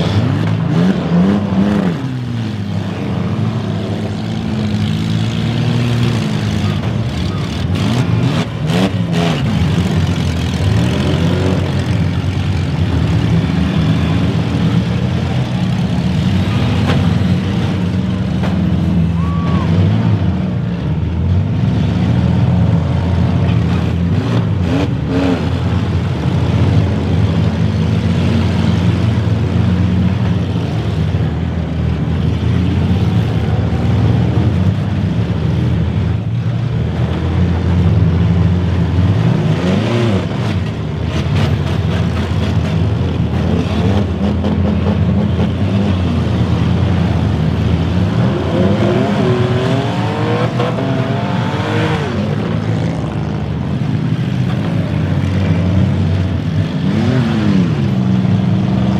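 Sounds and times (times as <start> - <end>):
car engines revving: 0.0 - 58.9.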